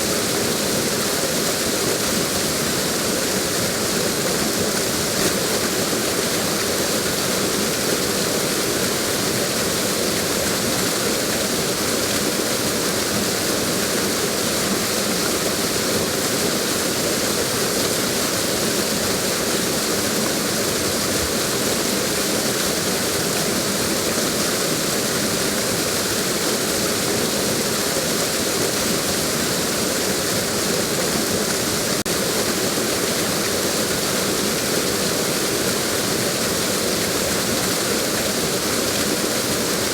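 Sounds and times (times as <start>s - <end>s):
waterfall splashing onto rock: 0.0s - 39.9s.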